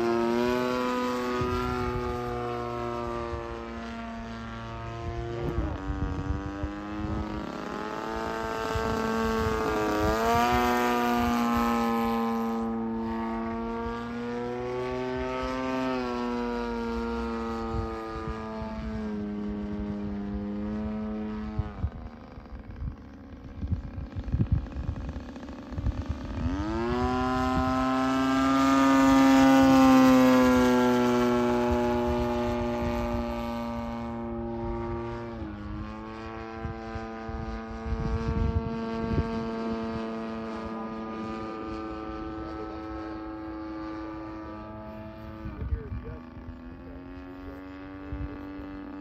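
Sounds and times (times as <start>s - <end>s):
model plane engine droning: 0.0s - 49.0s.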